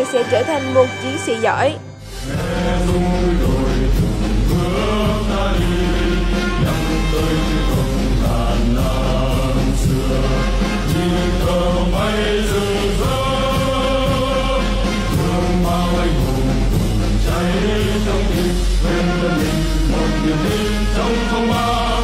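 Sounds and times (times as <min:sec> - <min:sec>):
music with singing voices: 0:00.0 - 0:22.0.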